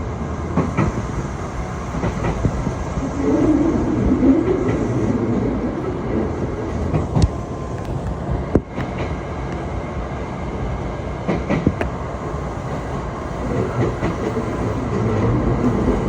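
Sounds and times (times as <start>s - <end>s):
train rumbling along track: 0.0s - 16.0s
wheels clicking over rail joints: 0.4s - 9.6s, 11.2s - 16.0s.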